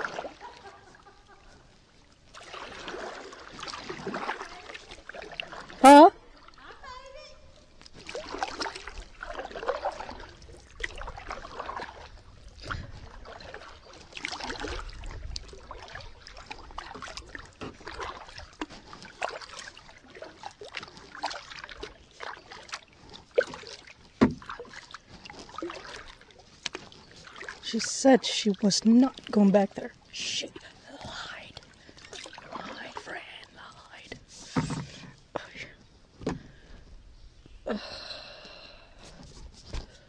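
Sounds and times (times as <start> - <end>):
kayak paddle strokes in water: 0.0 - 37.4.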